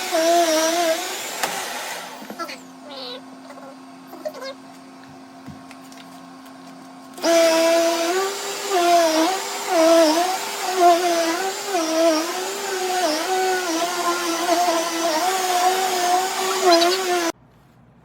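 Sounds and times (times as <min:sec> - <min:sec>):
vacuum cleaner motor humming: 0:00.0 - 0:17.4.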